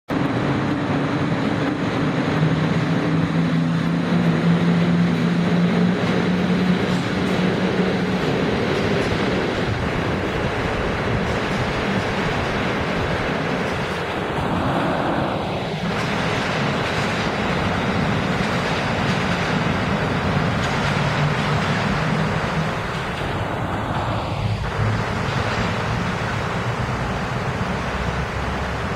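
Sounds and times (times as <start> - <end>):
electric locomotive hum: 0.1 - 28.9
train rumbling: 0.1 - 28.9.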